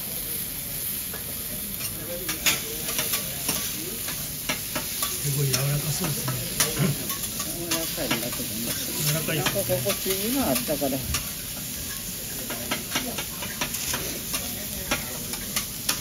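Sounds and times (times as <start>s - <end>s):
steak sizzling on a griddle: 0.0s - 16.0s.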